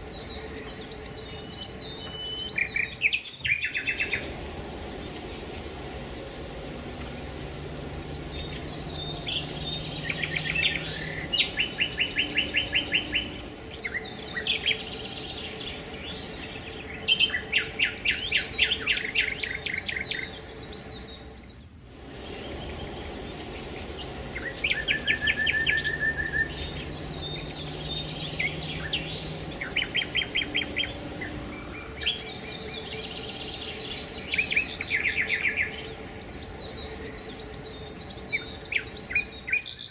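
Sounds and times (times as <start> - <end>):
songbirds trilling and chirping: 0.0 - 39.9
steady background hiss: 0.0 - 39.9.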